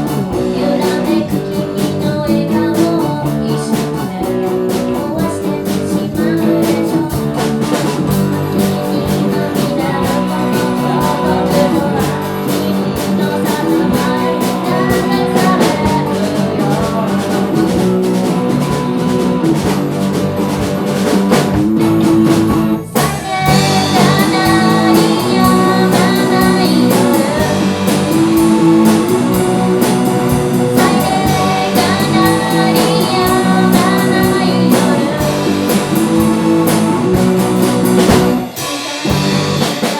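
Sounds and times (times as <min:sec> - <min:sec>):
drum kit: 0:00.0 - 0:39.9
guitar: 0:00.0 - 0:39.9
live band playing: 0:00.0 - 0:39.9.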